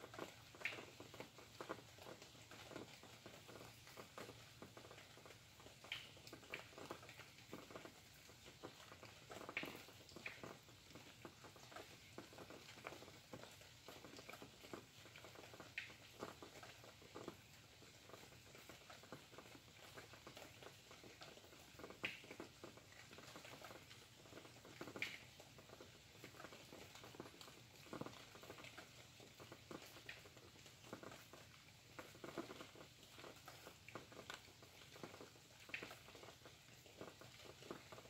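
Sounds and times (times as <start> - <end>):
faint rain pattering: 0.0 - 38.0.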